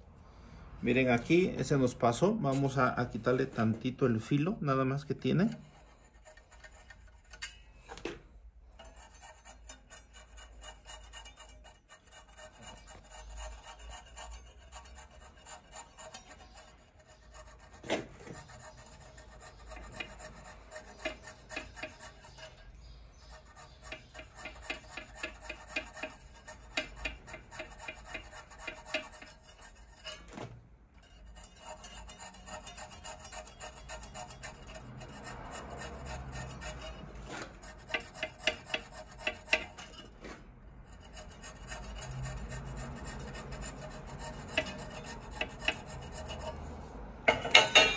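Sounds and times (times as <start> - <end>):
hand file rasping on metal: 0.9 - 8.0, 8.6 - 30.3, 30.9 - 47.9.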